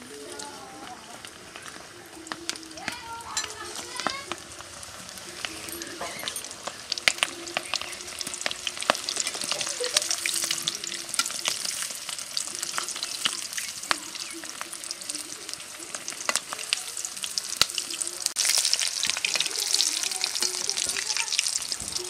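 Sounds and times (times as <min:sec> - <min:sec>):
food deep-frying with crackling pops: 0:00.0 - 0:22.0
spoon moving frying food: 0:00.0 - 0:22.0.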